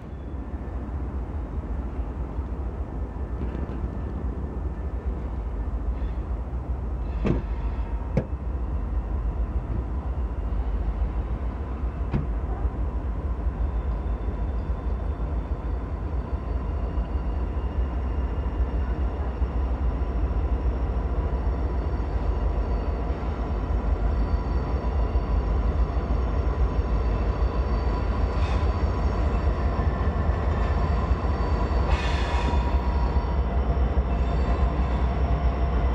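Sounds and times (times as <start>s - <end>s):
freight train rumbling: 0.0s - 35.9s.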